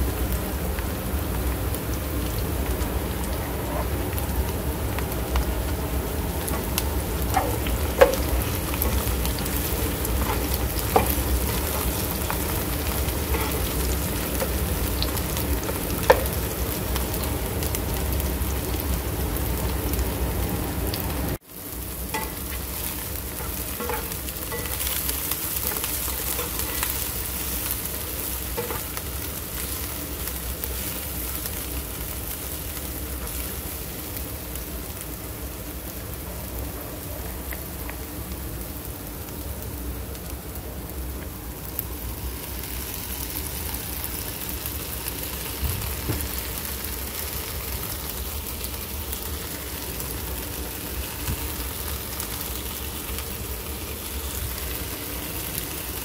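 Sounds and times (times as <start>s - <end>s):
vegetables sizzling in a frying pan: 0.0s - 56.0s.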